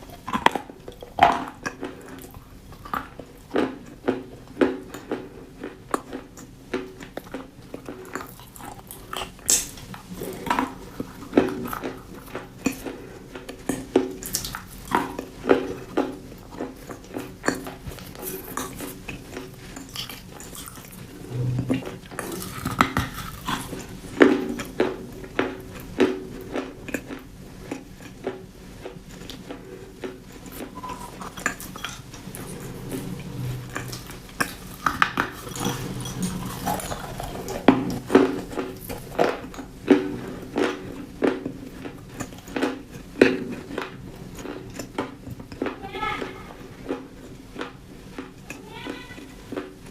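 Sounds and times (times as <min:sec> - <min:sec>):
crunchy chewing: 0:00.0 - 0:49.9.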